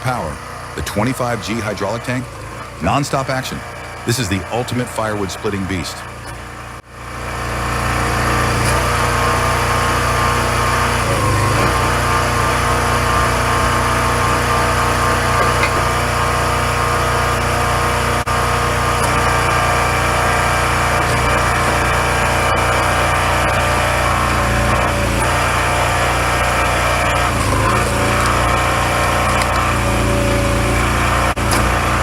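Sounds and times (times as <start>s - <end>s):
petrol engine running: 0.0s - 32.0s.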